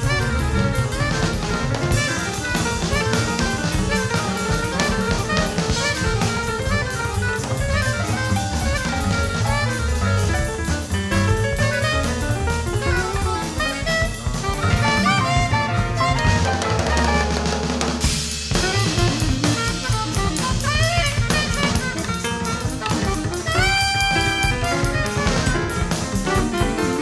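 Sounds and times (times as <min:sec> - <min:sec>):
acoustic bass: 0:00.0 - 0:27.0
alto saxophone sliding lines: 0:00.0 - 0:27.0
busy drum kit playing: 0:00.0 - 0:27.0
piano: 0:00.0 - 0:27.0.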